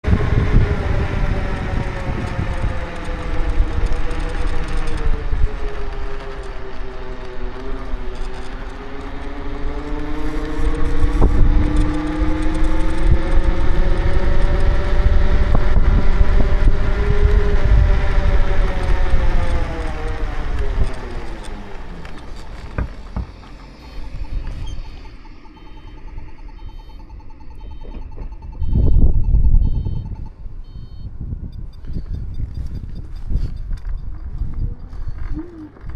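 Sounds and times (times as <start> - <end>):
scooter cracking and creaking: 0.0 - 26.4, 31.8 - 35.9
electric scooter motor whine: 0.0 - 35.9
heavy low rumble: 0.0 - 35.9.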